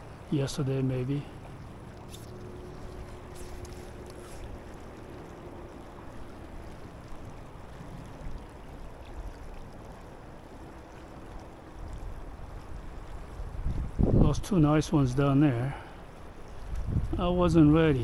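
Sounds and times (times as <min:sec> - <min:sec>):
river current rushing: 0:00.0 - 0:16.5.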